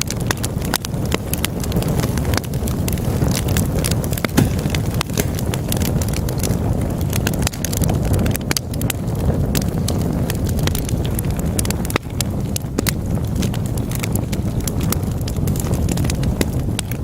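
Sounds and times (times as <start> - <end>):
logs crackling and popping: 0.0 - 17.0
low rush of flames: 0.0 - 17.0.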